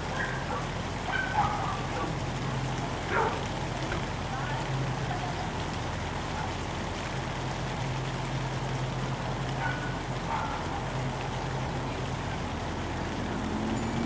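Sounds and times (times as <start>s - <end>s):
rain on leaves and pavement: 0.0s - 14.0s.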